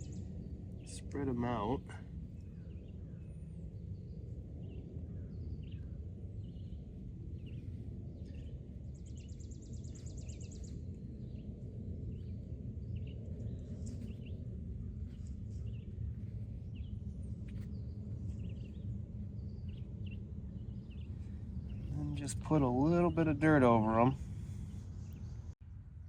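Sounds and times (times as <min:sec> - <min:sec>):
small birds chirping: 0:00.0 - 0:25.6
low rumble: 0:00.0 - 0:26.0.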